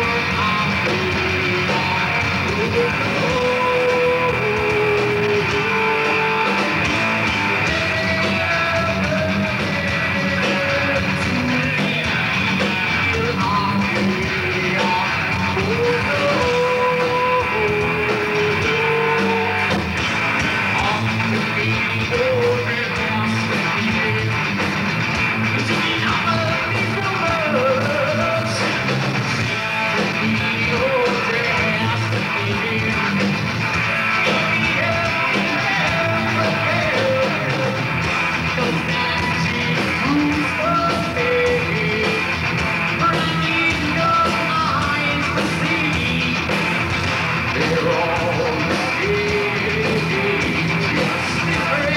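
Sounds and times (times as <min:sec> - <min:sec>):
gliding lead guitar line: 0:00.0 - 0:51.9
live heavy rock band: 0:00.0 - 0:51.9.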